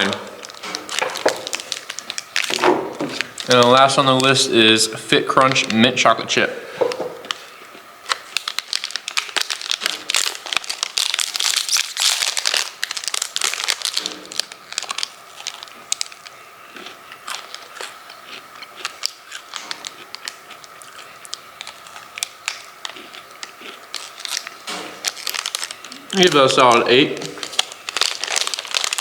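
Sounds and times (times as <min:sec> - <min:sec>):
wrapper tearing and crinkling: 0:00.0 - 0:04.7, 0:07.3 - 0:29.0.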